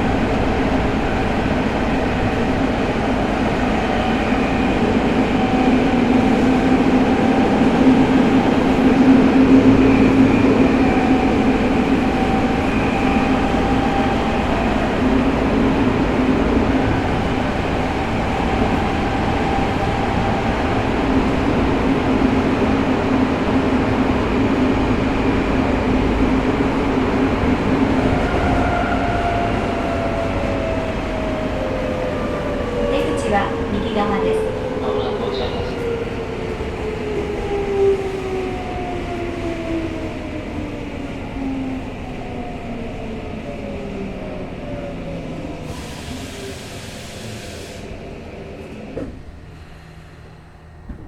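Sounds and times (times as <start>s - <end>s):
wheels rumbling on rail: 0.0s - 51.0s.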